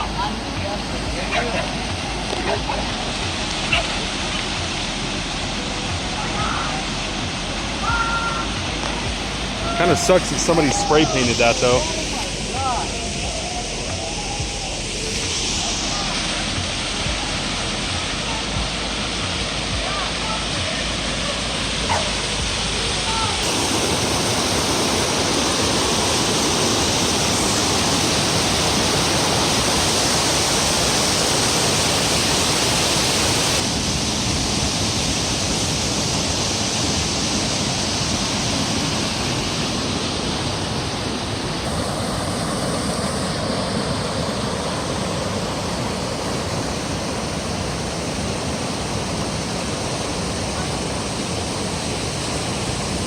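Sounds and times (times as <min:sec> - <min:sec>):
water rushing over waterfall: 0:00.0 - 0:53.0.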